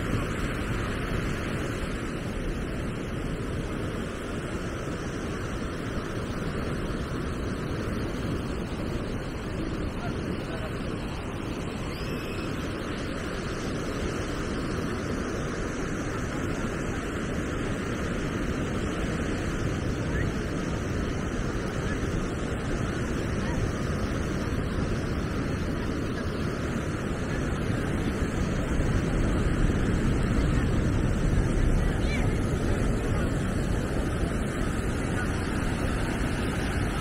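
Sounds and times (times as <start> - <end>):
surf washing: 0.0 - 37.0
wind rumbling on microphone: 0.0 - 37.0
faint voices: 6.1 - 37.0.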